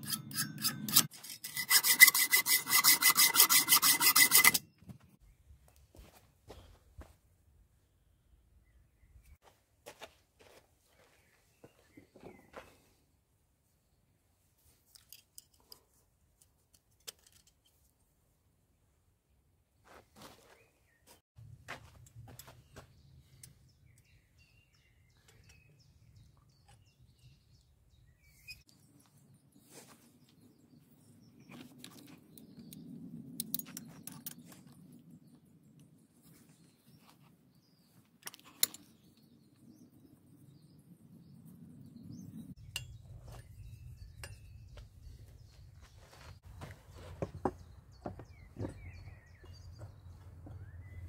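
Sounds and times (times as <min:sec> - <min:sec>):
faint birdsong: 0:04.6 - 0:09.7, 0:10.4 - 0:18.0, 0:18.9 - 0:21.2, 0:21.8 - 0:51.0.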